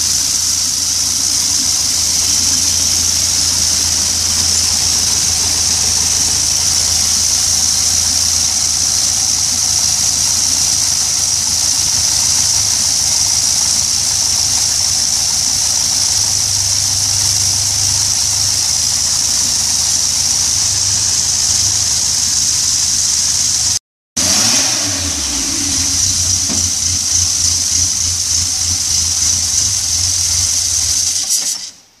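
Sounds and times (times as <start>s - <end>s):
car engine idling: 0.0s - 31.4s.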